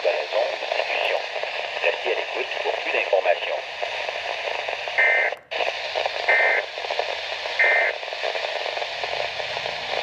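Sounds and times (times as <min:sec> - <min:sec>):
radio static: 0:00.0 - 0:10.0.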